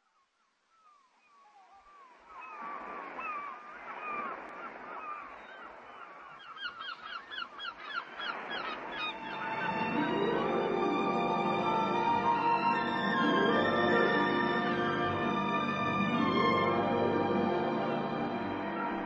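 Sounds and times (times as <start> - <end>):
gulls calling: 0.8 - 19.0.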